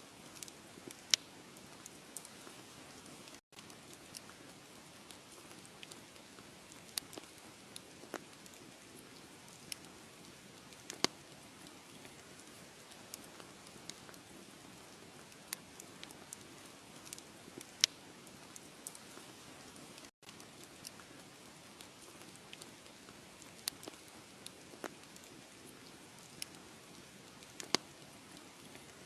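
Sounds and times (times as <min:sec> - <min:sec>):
wood fire crackling: 0:00.1 - 0:29.0
fire popping and snapping: 0:00.2 - 0:29.0.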